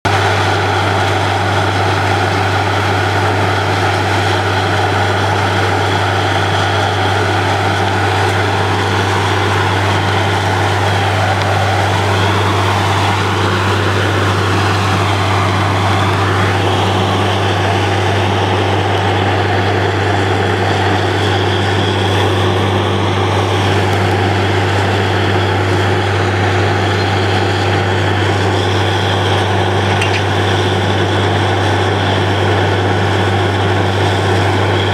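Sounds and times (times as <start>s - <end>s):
drilling rig engine drone: 0.0s - 34.9s.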